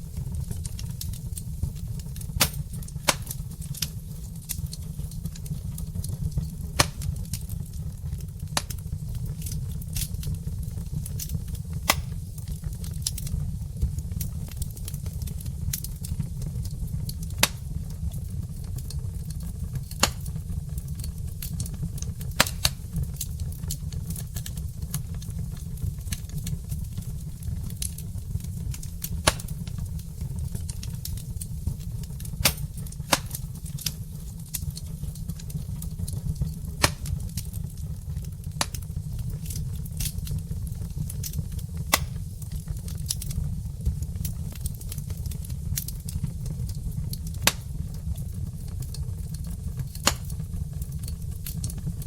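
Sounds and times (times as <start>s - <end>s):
logs crackling in a fire: 0.0s - 52.0s
low fire rumble: 0.0s - 52.0s
sharp pops of fire: 0.0s - 52.0s.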